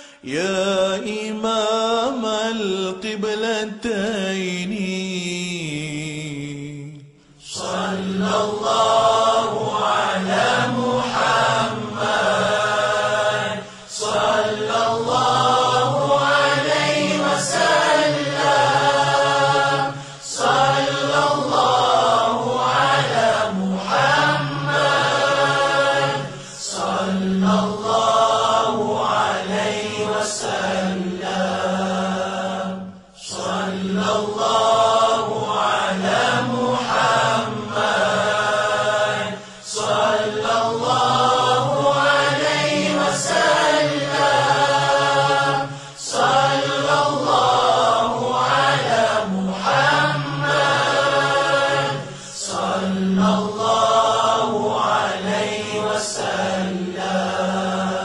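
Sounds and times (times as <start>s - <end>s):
person chanting melodically: 0.0s - 58.0s.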